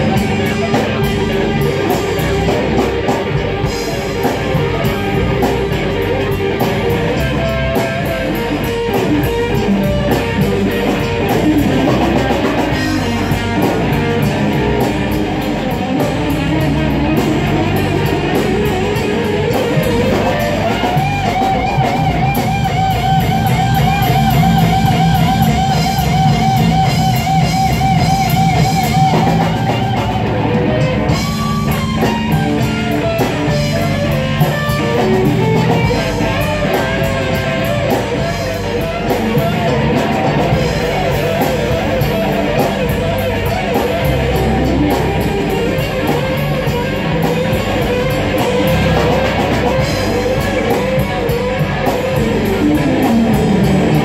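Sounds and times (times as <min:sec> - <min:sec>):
drum kit: 0:00.0 - 0:54.0
electric guitar lead: 0:00.0 - 0:54.0.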